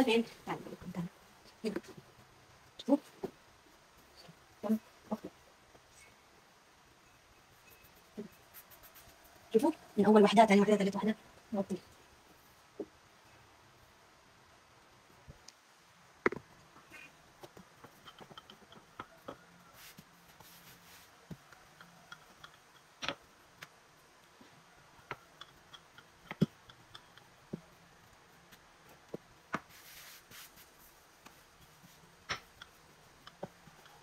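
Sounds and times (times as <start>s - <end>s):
soft rubbing of dough: 0.0s - 10.2s, 16.6s - 34.0s.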